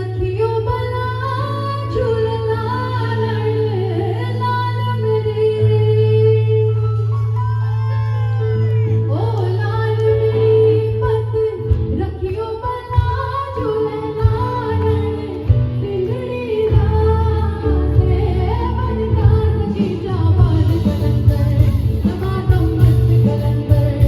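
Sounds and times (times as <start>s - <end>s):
woman singing: 0.0s - 7.3s, 9.0s - 24.0s
instrumental accompaniment with bass: 0.0s - 24.0s.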